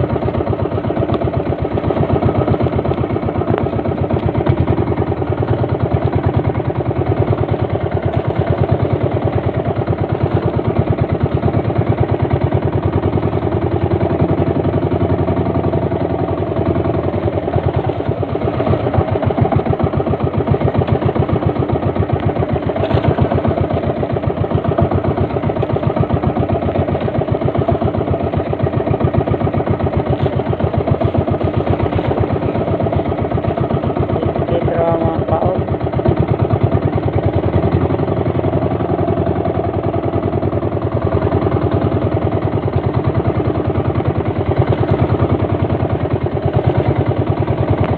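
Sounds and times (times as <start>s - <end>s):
small boat engine running: 0.0s - 47.9s.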